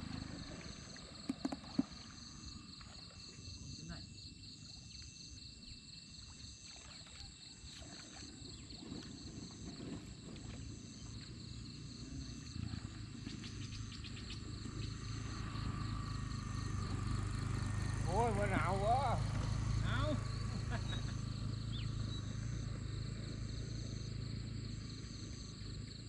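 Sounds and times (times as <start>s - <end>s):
water sloshing from wading: 0.0s - 15.8s, 16.4s - 23.4s
insects chirping: 0.0s - 26.0s.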